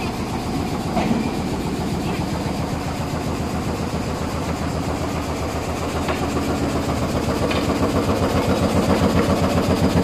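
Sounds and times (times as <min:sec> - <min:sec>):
frame saw machine droning: 0:00.0 - 0:10.0.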